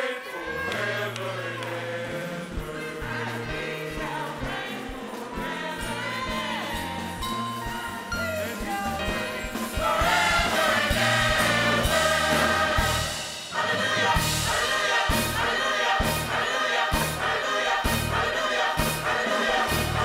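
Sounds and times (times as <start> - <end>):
gospel choir singing: 0.0 - 20.0
drums steady beat: 2.5 - 20.0.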